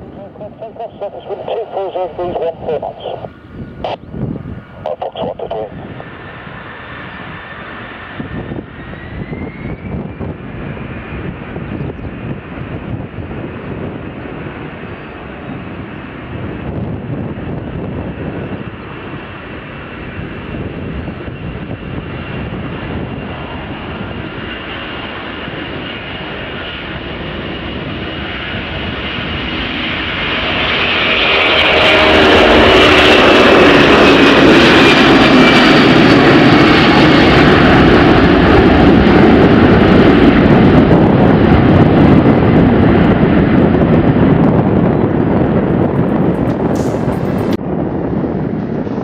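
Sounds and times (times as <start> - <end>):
high jet whine: 0.0 - 49.0
jet aircraft taking off: 0.0 - 49.0.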